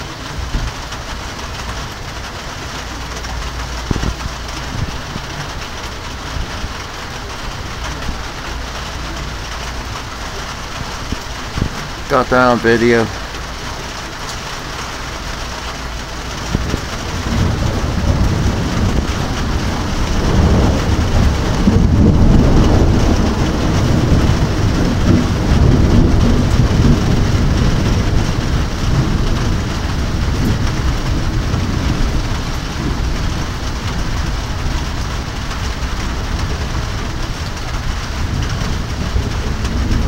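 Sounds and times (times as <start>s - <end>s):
steady rain: 0.0s - 40.0s
thunder rumbling: 0.0s - 40.0s.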